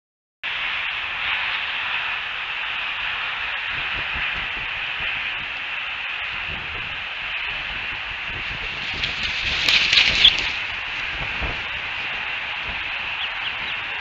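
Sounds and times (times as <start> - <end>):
microphone hiss: 0.5 - 14.0.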